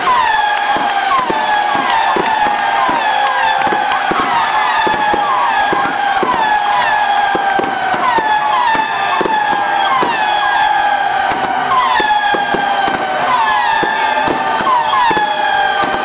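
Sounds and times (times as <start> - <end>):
fireworks crackling pops: 0.0 - 16.0
fireworks hissing: 0.0 - 16.0
whistling fireworks: 0.0 - 16.0.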